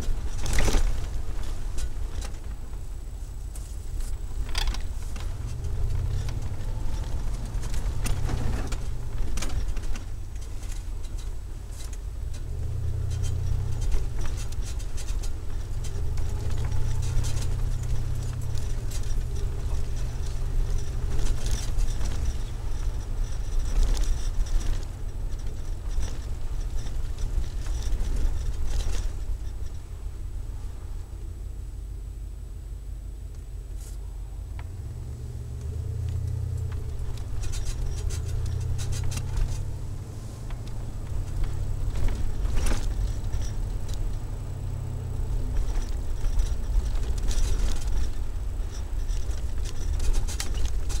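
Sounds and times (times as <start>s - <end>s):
interior clicks and rattles: 0.0s - 31.4s, 33.2s - 51.0s
deep exhaust drone in cabin: 0.0s - 51.0s.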